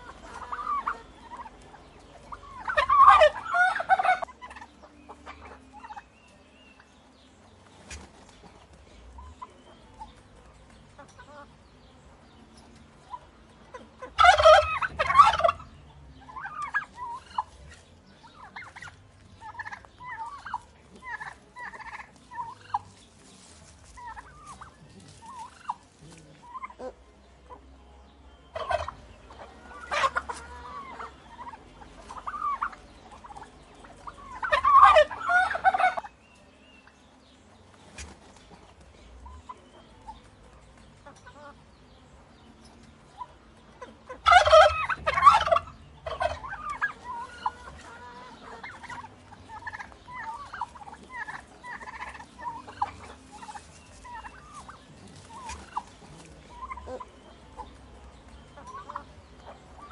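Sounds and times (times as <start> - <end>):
turkeys gobbling: 0.0 - 11.6, 12.6 - 27.8, 28.4 - 59.9
turkey calls and clucks: 0.0 - 59.9.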